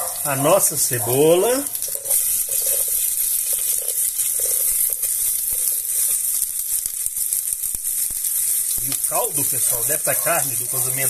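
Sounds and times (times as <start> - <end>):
crackles of frying: 0.0 - 11.0
onion sizzling in hot oil: 0.0 - 11.0.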